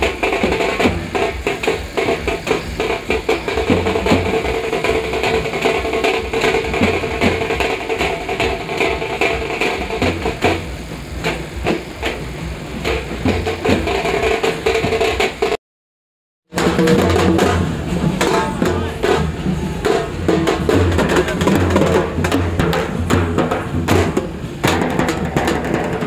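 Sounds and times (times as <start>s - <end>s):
drums beating fast rhythm: 0.0s - 15.6s, 16.4s - 26.0s.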